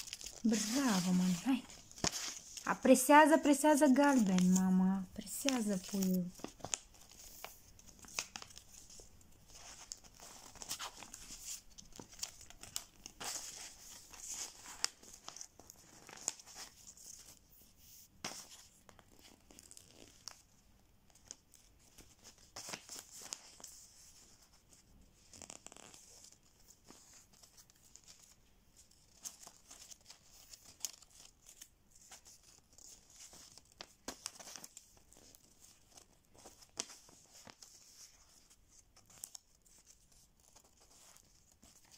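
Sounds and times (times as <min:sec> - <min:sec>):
paper rustling and crinkling: 0:00.0 - 0:41.9.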